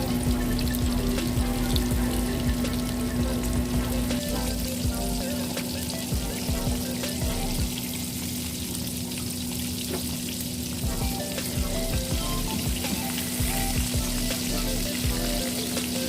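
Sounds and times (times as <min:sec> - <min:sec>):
chicken sizzling in hot oil: 0:00.0 - 0:16.0
small oil crackles: 0:00.0 - 0:16.0.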